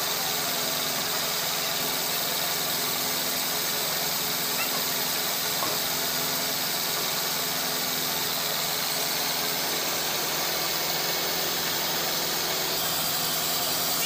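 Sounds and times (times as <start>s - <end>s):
machinery hiss: 0.0s - 14.0s.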